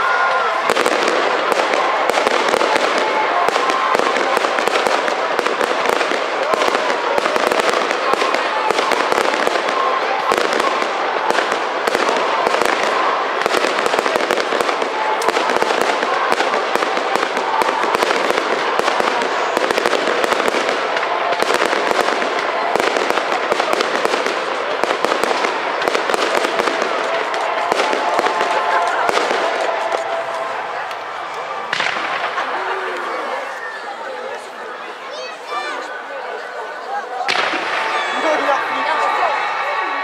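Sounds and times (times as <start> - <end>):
fireworks bangs and crackles: 0.0 - 36.0, 37.0 - 40.0.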